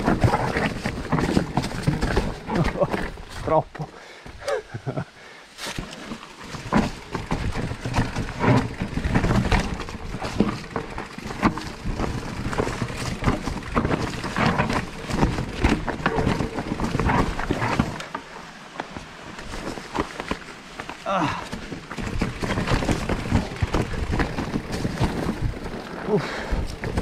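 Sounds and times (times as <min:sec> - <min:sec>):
bike rattling and knocking: 0:00.0 - 0:05.0, 0:05.7 - 0:27.0
tyres crunching over stones: 0:00.0 - 0:27.0.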